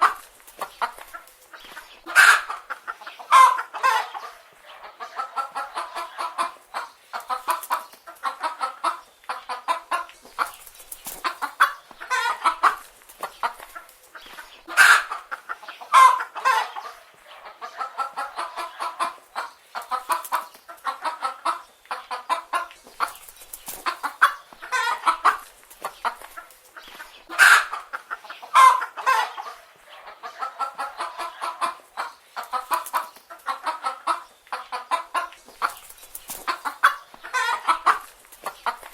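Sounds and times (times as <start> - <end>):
hens clucking: 0.0 - 38.9.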